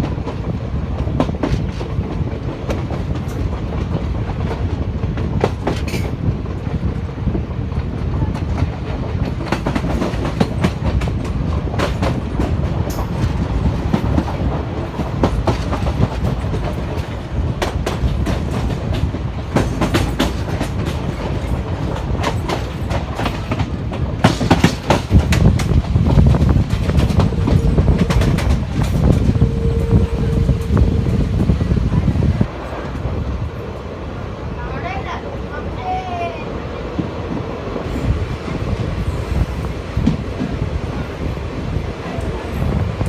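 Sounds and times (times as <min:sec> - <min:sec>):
train wheels clacking on rails: 0:00.0 - 0:33.6, 0:35.9 - 0:43.0.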